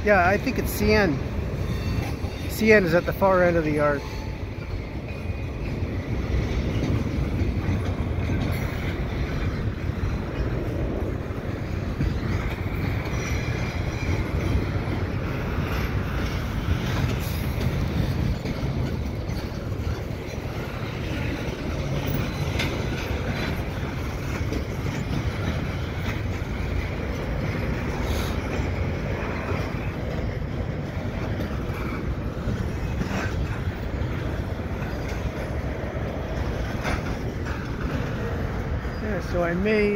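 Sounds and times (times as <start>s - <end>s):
freight cars rumbling: 0.0s - 39.9s.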